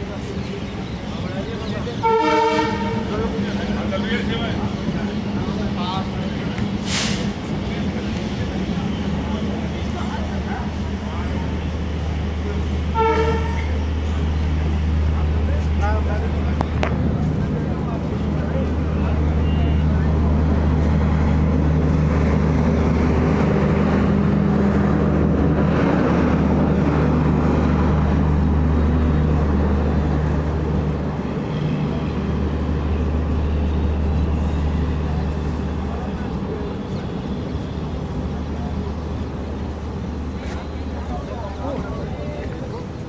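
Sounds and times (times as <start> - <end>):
crowd voices: 0.0 - 43.0
train running rumble: 0.0 - 43.0.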